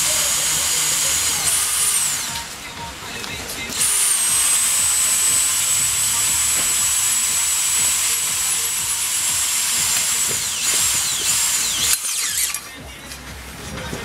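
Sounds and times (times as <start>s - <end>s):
reciprocating saw cutting wood: 0.0s - 2.7s, 3.7s - 12.7s.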